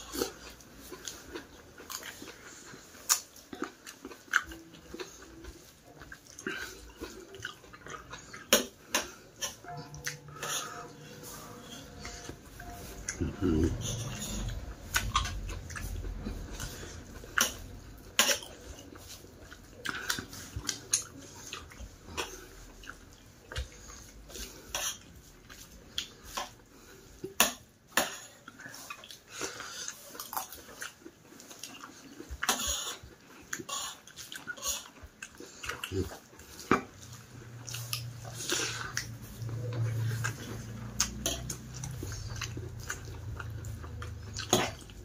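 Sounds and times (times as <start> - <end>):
chewing with wet smacks: 0.0 - 45.0.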